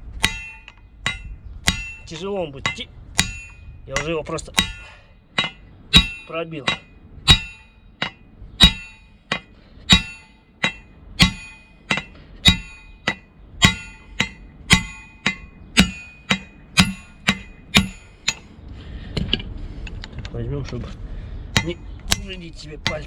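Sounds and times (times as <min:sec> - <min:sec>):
hammer striking metal: 0:00.1 - 0:18.5, 0:21.5 - 0:23.0.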